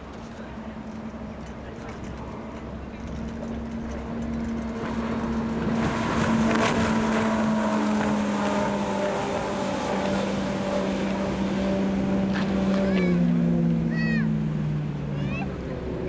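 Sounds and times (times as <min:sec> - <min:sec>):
outboard engine droning: 0:00.0 - 0:16.0.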